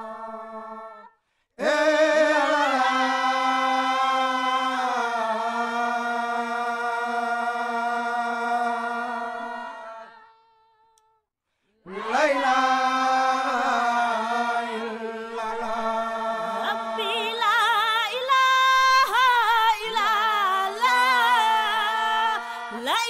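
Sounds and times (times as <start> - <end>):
lead voice singing with vibrato: 0.0 - 10.7, 11.8 - 23.0.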